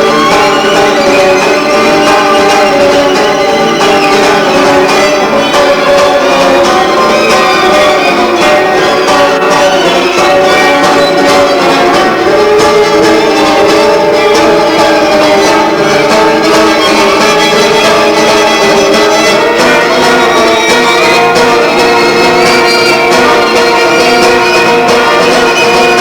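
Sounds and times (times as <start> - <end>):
acoustic guitar playing: 0.0 - 26.0
violin sustained notes: 0.0 - 26.0.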